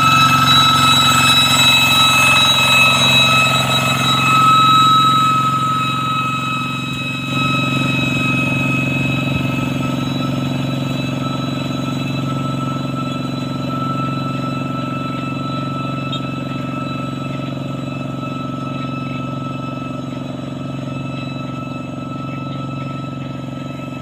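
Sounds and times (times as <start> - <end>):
diesel tractor engine running: 0.0 - 21.1
high whistling tone: 0.0 - 24.0.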